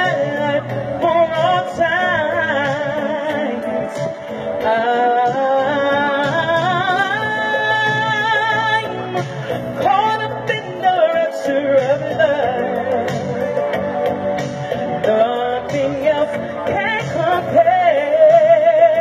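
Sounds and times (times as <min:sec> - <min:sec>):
backing music over speakers: 0:00.0 - 0:19.0
person singing live: 0:00.0 - 0:19.0.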